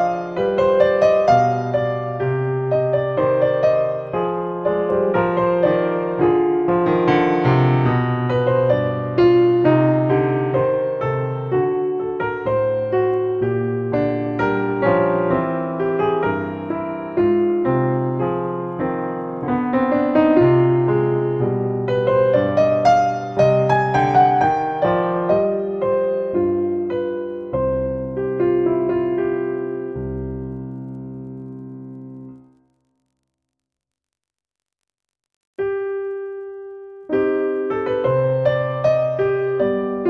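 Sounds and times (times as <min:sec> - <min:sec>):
gentle piano music: 0:00.0 - 0:32.4, 0:35.7 - 0:40.0.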